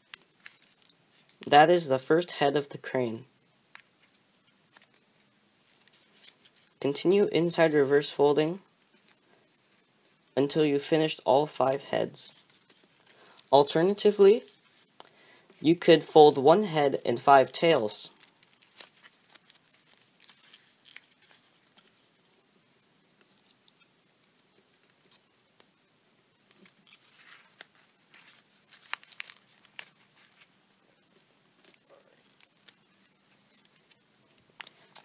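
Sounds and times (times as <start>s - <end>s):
paper crinkling and crackling: 0.0s - 1.5s, 3.7s - 35.0s.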